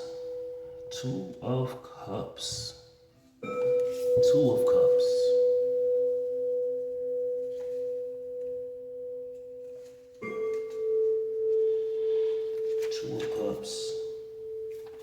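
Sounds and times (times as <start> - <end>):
struck metal tone ringing: 0.0 - 1.7, 3.4 - 15.0.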